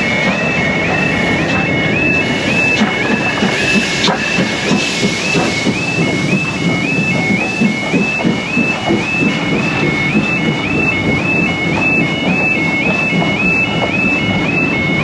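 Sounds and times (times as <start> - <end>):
train rumbling: 0.0 - 15.0
two-note electronic alarm tone: 0.0 - 15.0.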